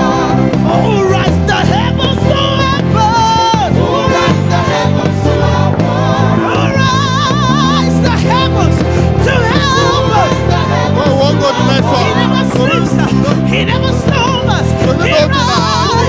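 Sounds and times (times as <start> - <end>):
bass guitar: 0.0 - 16.0
gospel band: 0.0 - 16.0
singers holding wavering notes: 0.0 - 16.0.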